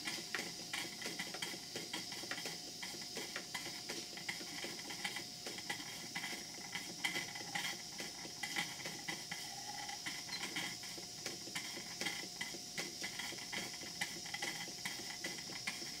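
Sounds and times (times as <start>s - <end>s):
steam engines clicking: 0.0s - 16.0s
steam hissing: 0.0s - 16.0s.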